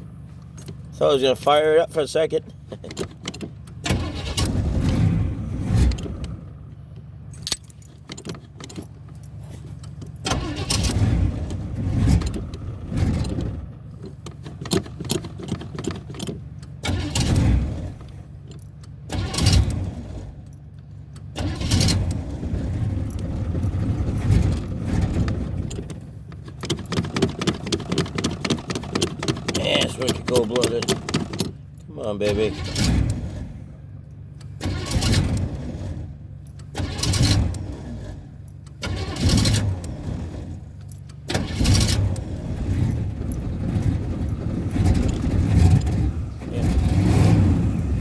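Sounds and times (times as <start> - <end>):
car engine cranking and sputtering: 0.0 - 48.0.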